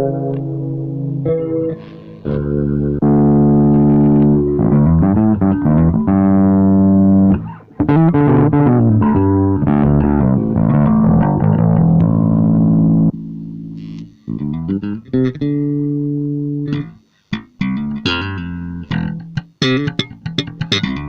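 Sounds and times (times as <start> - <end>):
electric bass guitar: 0.0 - 21.0.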